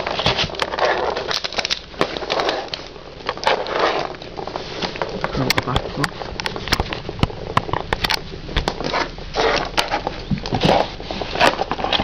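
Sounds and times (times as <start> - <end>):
cards rustling: 0.0 - 12.0.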